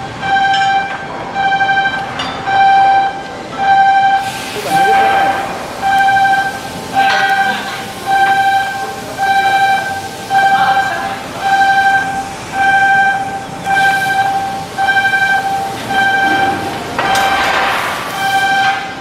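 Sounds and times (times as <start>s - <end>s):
electronic warning beeper: 0.2s - 19.0s.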